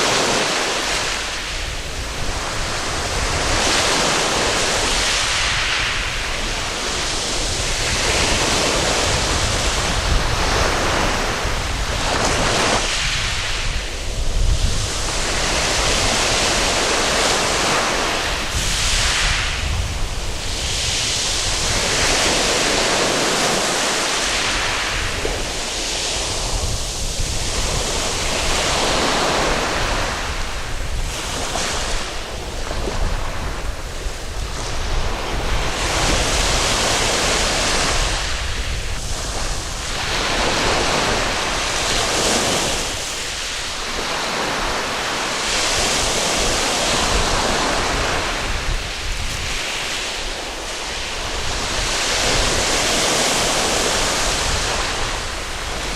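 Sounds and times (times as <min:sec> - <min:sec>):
waves breaking on a beach: 0:00.0 - 0:55.9
wind rumble on microphone: 0:00.0 - 0:55.9.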